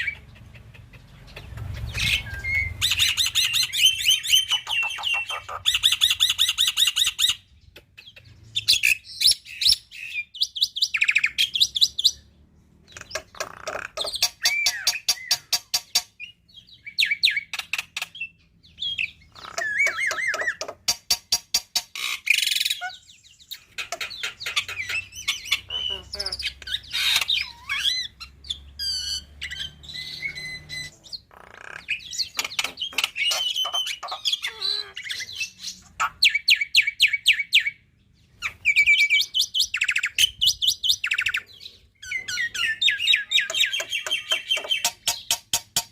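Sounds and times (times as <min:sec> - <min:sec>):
bird singing trills and whistles: 0:00.0 - 0:12.3, 0:12.9 - 0:45.9.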